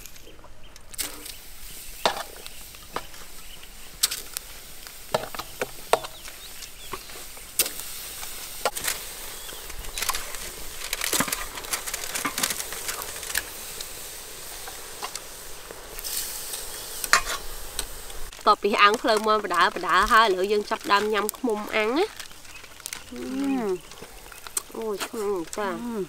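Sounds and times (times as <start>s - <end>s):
meat sizzling on grill: 0.0s - 26.0s.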